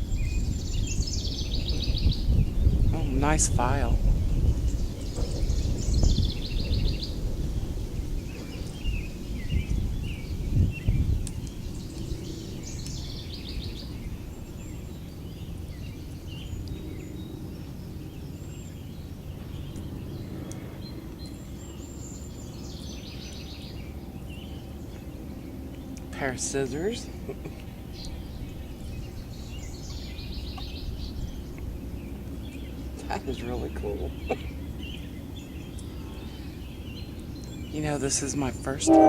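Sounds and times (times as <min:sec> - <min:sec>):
low uneven rumble: 0:00.0 - 0:39.0
songbirds trilling: 0:00.0 - 0:39.0.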